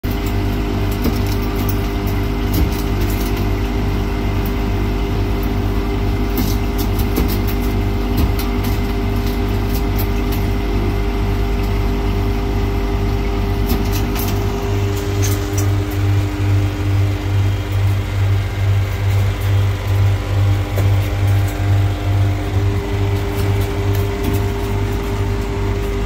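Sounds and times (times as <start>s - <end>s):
ice machine humming: 0.0s - 26.0s.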